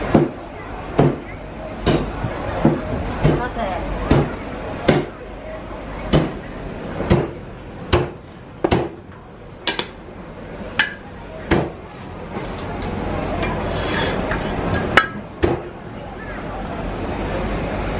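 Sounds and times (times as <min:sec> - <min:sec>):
shop background noise: 0:00.0 - 0:17.9.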